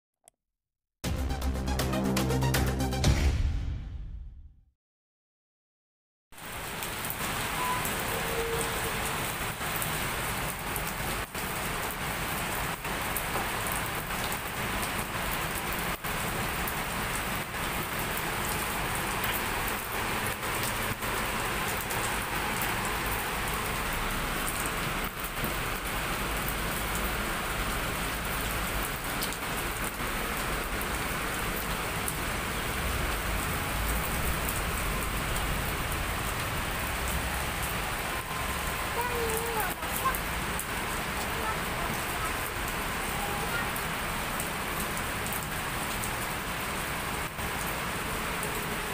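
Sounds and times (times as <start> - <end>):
heavy rain: 6.4 - 48.9.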